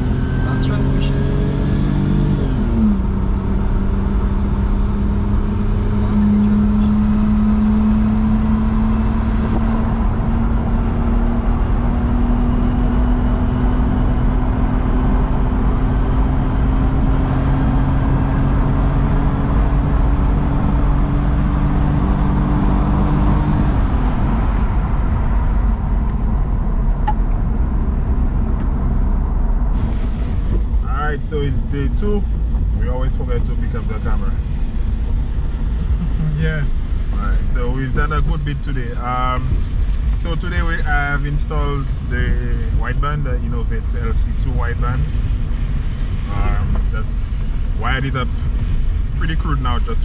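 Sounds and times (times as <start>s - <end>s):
car engine pulling from inside cabin: 0.0s - 47.2s
tyre and road noise: 0.0s - 50.0s.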